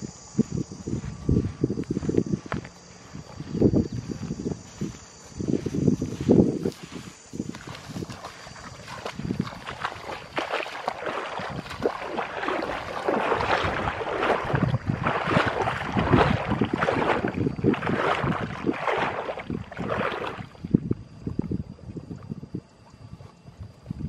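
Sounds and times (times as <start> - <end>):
wading through muddy water: 0.2 - 24.0.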